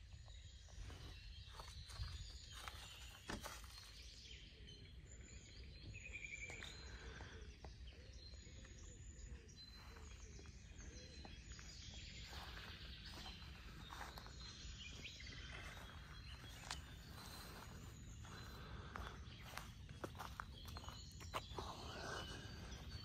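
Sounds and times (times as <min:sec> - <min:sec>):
faint birdsong: 0:00.0 - 0:23.0.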